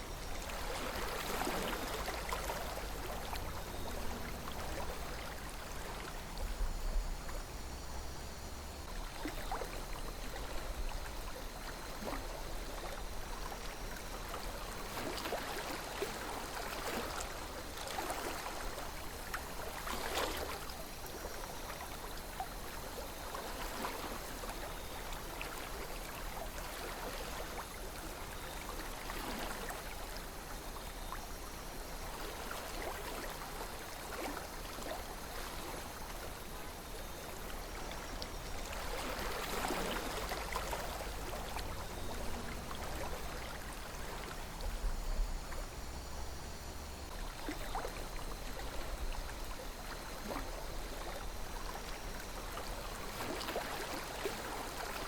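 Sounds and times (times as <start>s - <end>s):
river water flowing and babbling: 0.0s - 55.0s
small water splashes: 0.3s - 6.2s, 8.9s - 44.8s, 47.1s - 55.0s.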